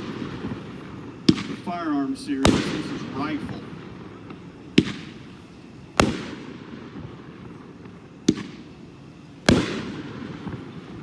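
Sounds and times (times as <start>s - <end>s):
firework bangs with echo: 0.0s - 11.0s.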